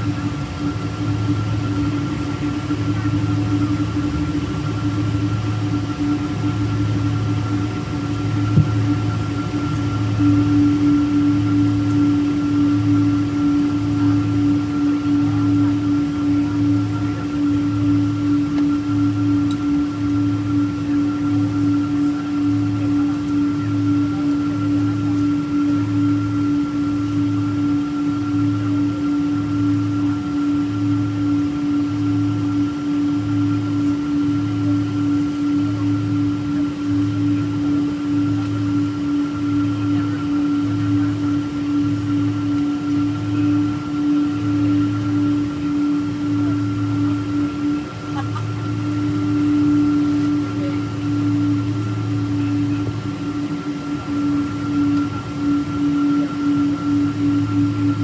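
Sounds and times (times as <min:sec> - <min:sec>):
jet engine whine: 0:00.0 - 0:58.0
low pulsing hum: 0:00.0 - 0:58.0.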